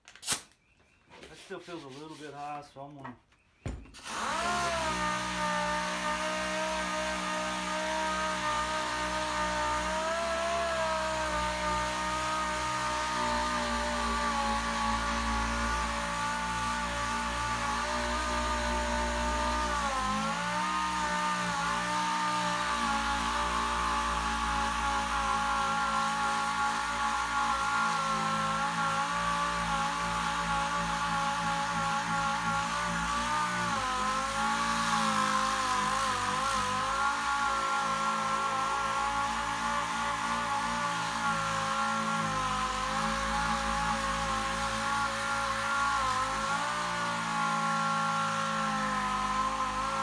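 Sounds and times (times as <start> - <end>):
sander whining: 3.6 - 50.0.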